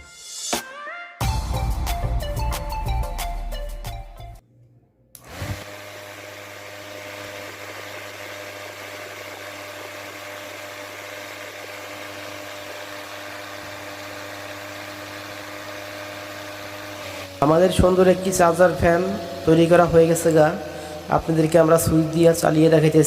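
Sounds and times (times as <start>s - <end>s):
fan motor hum: 4.4s - 23.0s.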